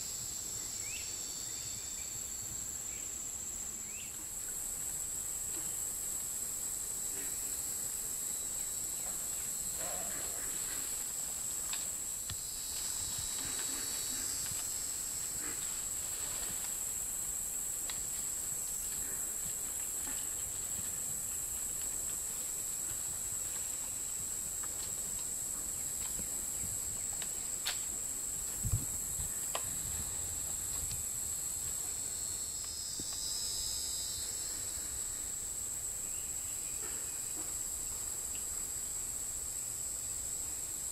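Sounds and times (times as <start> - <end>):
insect chorus drone: 0.0 - 40.9
low insect trill: 0.0 - 40.9.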